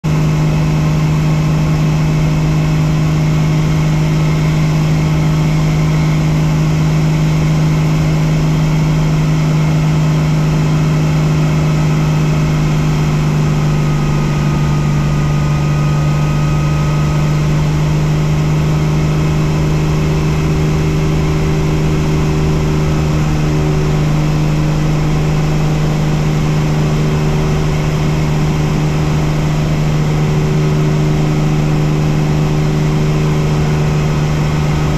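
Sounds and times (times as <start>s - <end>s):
helicopter engine and rotor drone: 0.1s - 34.9s.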